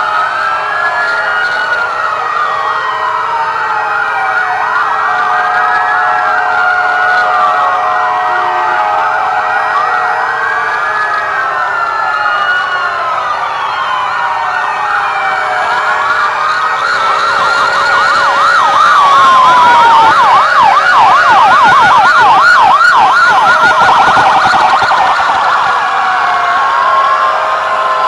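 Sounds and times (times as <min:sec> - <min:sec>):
rescue vehicle sirens: 0:00.0 - 0:28.0.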